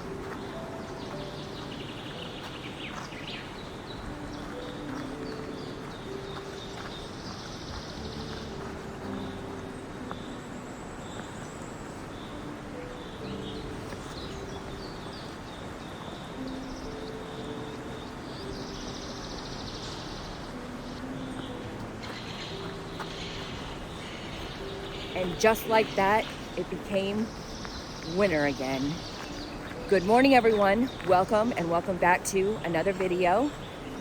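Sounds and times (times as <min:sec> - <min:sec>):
birds chirping: 0:00.0 - 0:34.0
low outdoor noise: 0:00.0 - 0:34.0.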